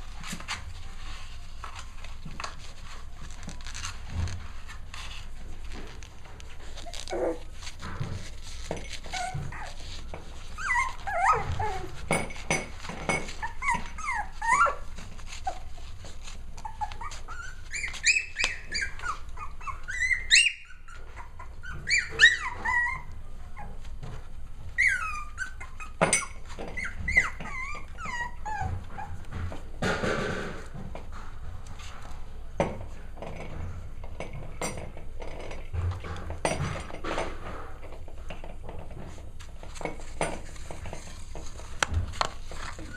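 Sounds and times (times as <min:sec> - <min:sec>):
puppies yipping and whining: 0:00.1 - 0:29.8, 0:36.4 - 0:42.9.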